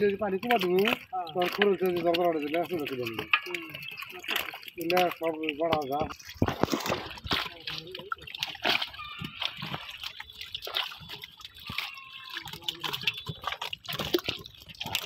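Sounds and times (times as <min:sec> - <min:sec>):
water splashing and dripping: 0:00.0 - 0:15.0.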